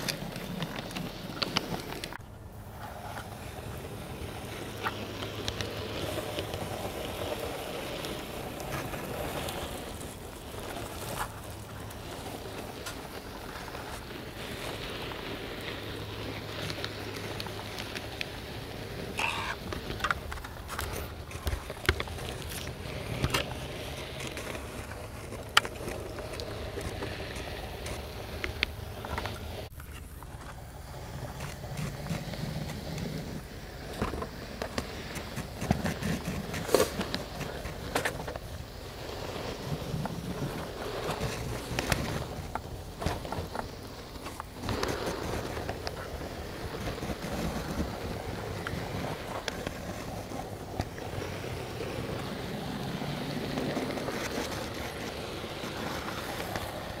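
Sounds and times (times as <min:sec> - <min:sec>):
model train wheels rumbling on rails: 0:00.0 - 0:57.0.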